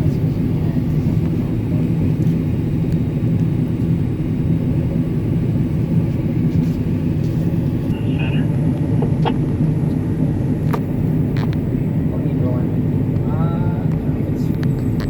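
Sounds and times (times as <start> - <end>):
combine harvester engine rumble: 0.0 - 15.0.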